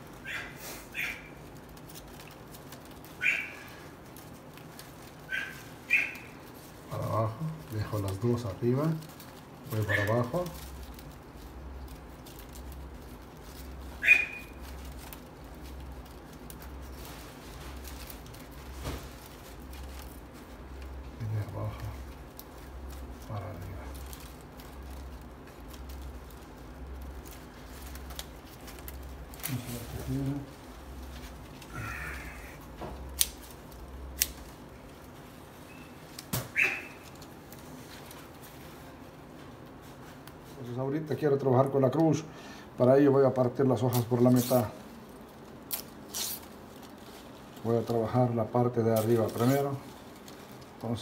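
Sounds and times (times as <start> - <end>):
palm-leaf strips rustling: 0.0 - 51.0.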